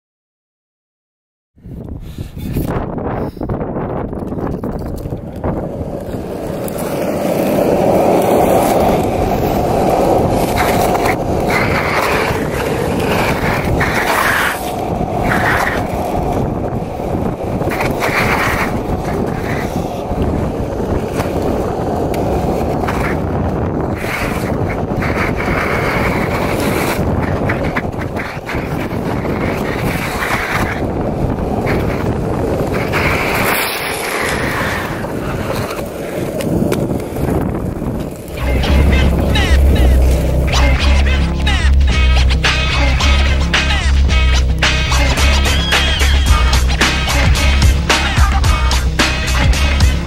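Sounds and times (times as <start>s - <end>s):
skate wheels rolling on asphalt: 1.6s - 50.0s
skate scraping: 2.1s - 50.0s.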